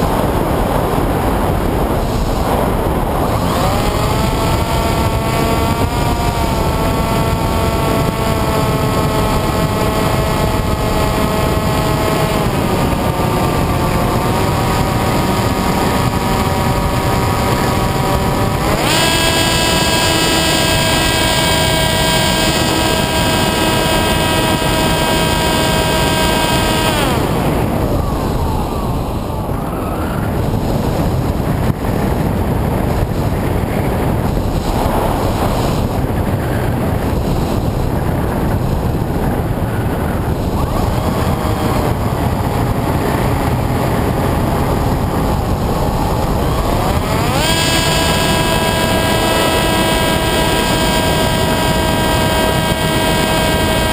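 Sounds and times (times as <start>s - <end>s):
model aircraft motor whine: 0.0s - 53.9s
wind rushing over microphone: 0.0s - 53.9s.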